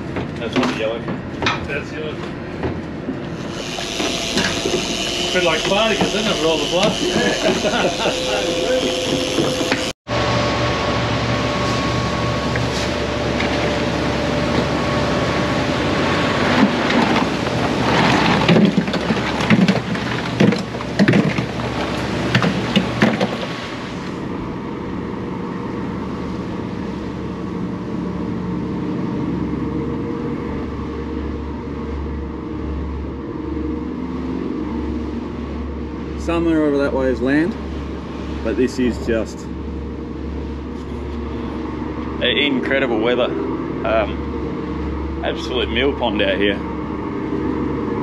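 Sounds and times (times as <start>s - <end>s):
boat engine running: 0.0s - 48.0s
water noise: 0.0s - 48.0s
wind: 0.0s - 48.0s.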